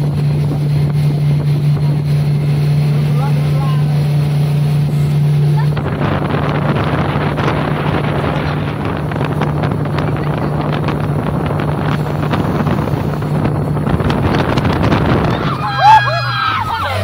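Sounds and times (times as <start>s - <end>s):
motorboat engine running: 0.0s - 17.0s
wind buffeting microphone: 0.0s - 17.0s.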